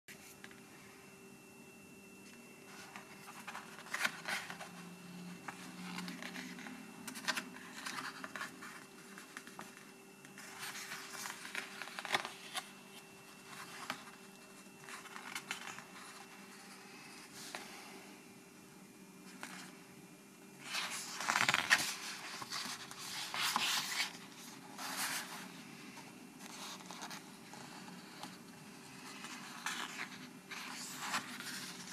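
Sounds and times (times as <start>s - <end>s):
faint steady hum: 0.1s - 31.9s
book pages turning: 2.2s - 18.0s, 20.6s - 31.9s.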